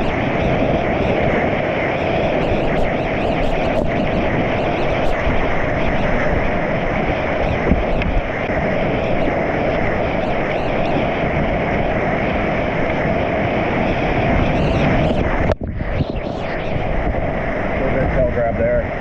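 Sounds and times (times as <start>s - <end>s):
rush of whitewater: 0.0s - 15.5s.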